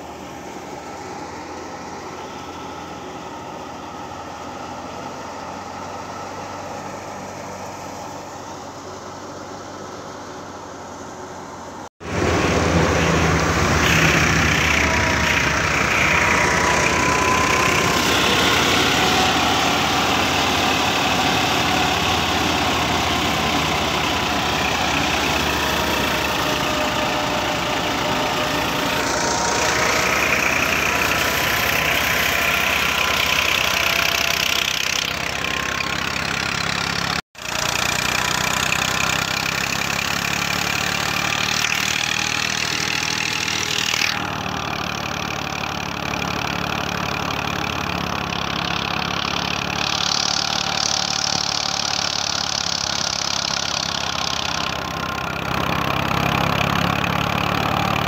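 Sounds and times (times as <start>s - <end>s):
tractor-driven thresher running: 0.0s - 58.0s.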